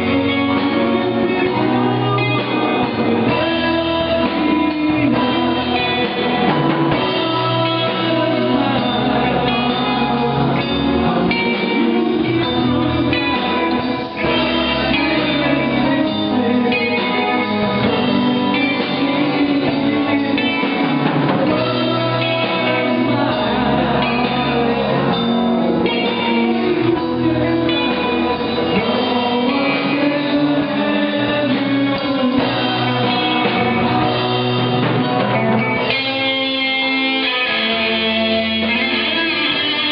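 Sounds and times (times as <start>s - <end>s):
bass guitar: 0.0s - 39.9s
drum kit: 0.0s - 39.9s
electric guitar: 0.0s - 39.9s
person singing: 0.0s - 39.9s.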